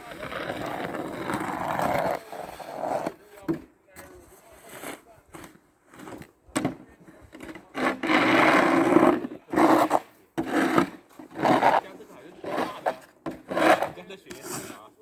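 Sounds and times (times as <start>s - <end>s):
snow shovel scraping: 0.0s - 3.4s, 4.0s - 6.3s, 7.0s - 14.9s.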